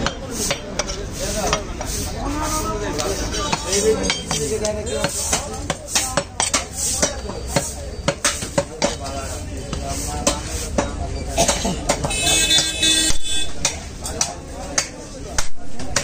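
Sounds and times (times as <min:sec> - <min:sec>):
voices talking: 0:00.0 - 0:16.0.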